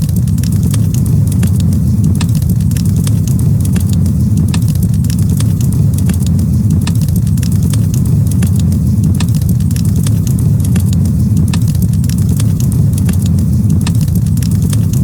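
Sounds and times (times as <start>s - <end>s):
campfire crackling and popping: 0.0s - 15.0s
low rumble: 0.0s - 15.0s.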